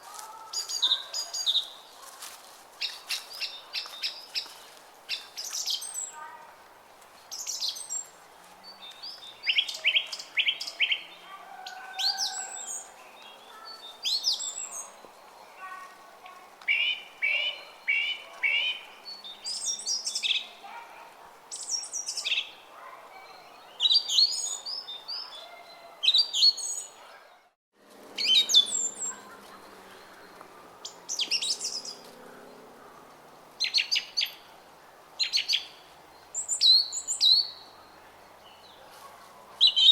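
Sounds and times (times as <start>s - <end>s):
songbirds chirping and singing: 0.0s - 6.3s, 7.3s - 16.0s, 16.6s - 20.8s, 21.4s - 27.5s, 28.2s - 39.9s.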